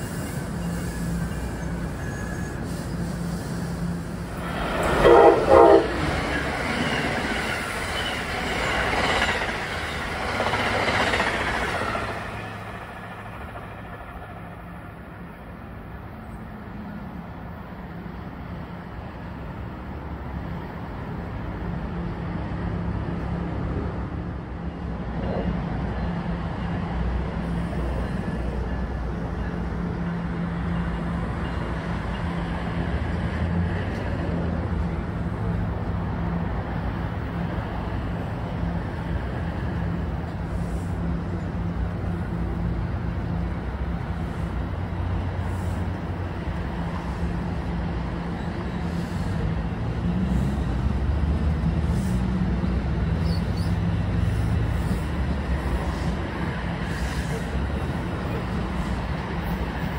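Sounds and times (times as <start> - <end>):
train electric hum: 0.0 - 59.9
wheel and rail rumble: 0.0 - 59.9.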